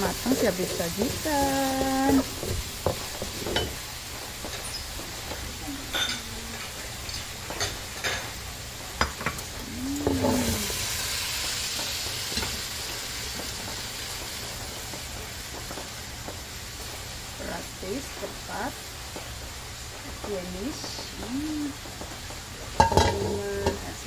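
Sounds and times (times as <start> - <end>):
food sizzling in wok: 0.0 - 24.0.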